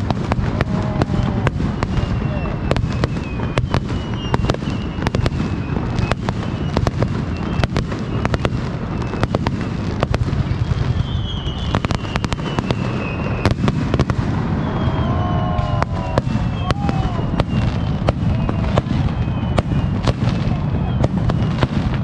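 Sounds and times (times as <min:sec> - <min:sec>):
fireworks bangs and crackles: 0:00.0 - 0:22.0
high firework whistles: 0:00.0 - 0:22.0.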